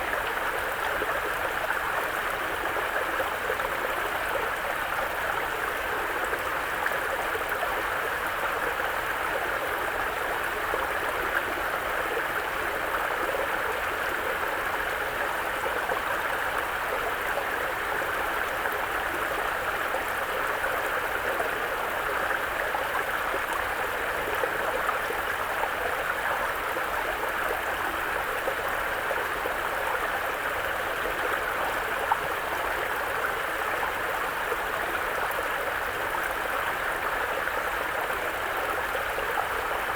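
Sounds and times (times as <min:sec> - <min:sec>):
brook flowing over rocks: 0:00.0 - 0:39.9.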